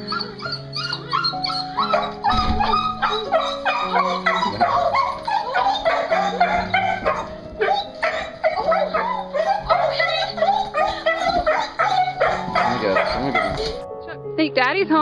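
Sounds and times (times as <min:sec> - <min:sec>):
dog yipping and whining: 0:00.0 - 0:13.8
background music: 0:00.0 - 0:15.0.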